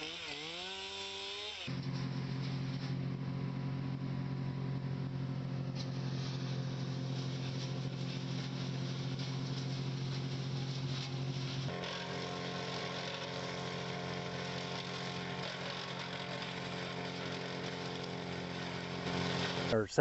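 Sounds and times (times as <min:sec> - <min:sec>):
chainsaw engine running: 0:00.0 - 0:19.8.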